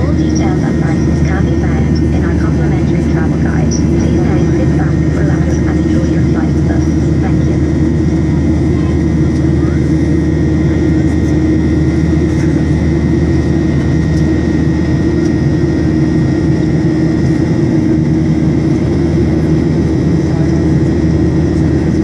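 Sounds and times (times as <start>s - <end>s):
jet engine rumble in cabin: 0.0s - 22.0s
thin steady whine: 0.0s - 22.0s.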